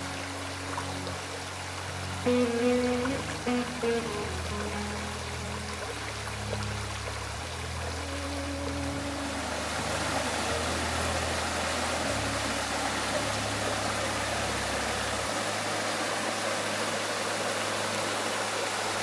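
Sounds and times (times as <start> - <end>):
low background music: 0.0 - 18.8
stream rushing: 0.0 - 19.0.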